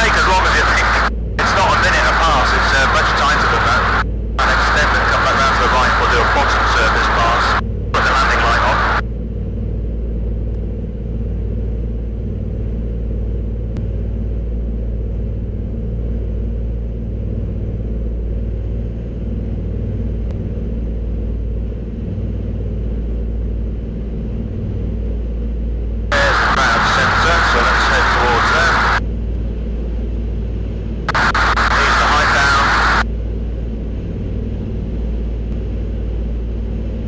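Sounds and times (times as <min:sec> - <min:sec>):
aircraft radial engines droning: 0:00.0 - 0:37.0.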